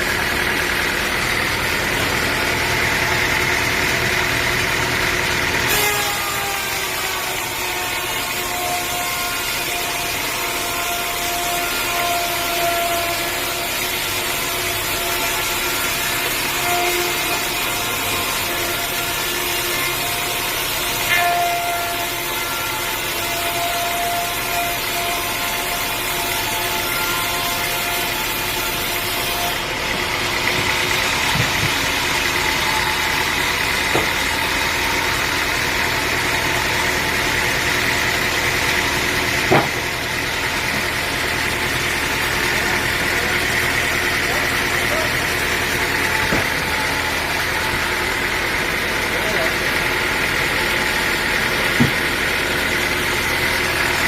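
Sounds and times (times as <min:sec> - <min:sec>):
engine running: 0:00.0 - 0:54.0
sawmill blade cutting log: 0:00.0 - 0:54.0.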